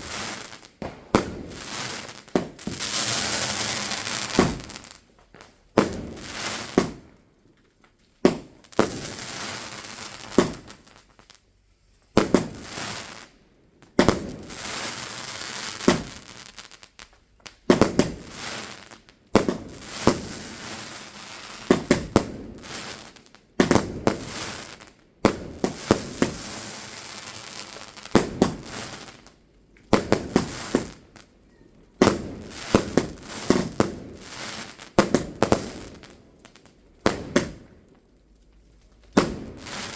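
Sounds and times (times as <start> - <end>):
fireworks bangs: 0.0 - 7.3, 8.2 - 11.4, 12.1 - 38.2, 38.8 - 39.9
fireworks crackling: 0.0 - 39.9.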